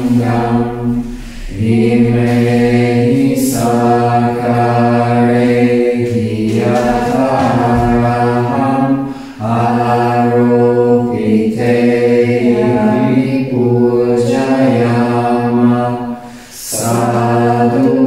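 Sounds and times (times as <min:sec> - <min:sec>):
low intoned chanting: 0:00.0 - 0:18.0.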